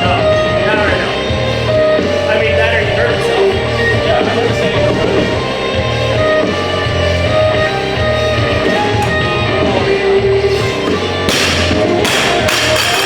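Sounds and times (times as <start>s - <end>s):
rock music with guitars: 0.0s - 13.0s.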